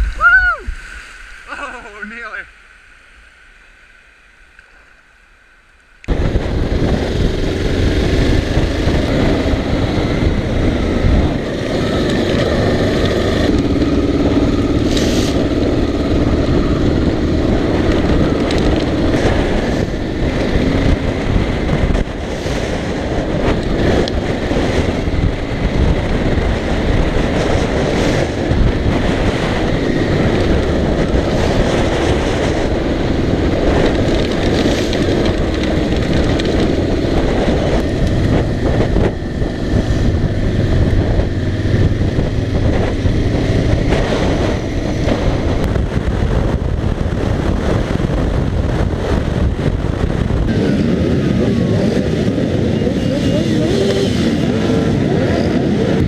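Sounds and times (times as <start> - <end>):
wind on microphone: 0.0 - 2.4, 6.0 - 56.0
motorcycle engine running: 6.1 - 56.0.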